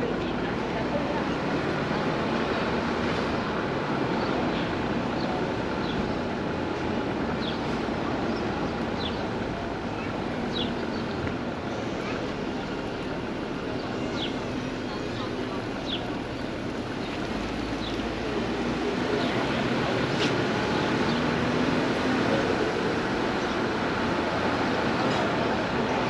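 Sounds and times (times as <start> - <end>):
people's voices: 0.0 - 26.0
traffic hum: 0.0 - 26.0.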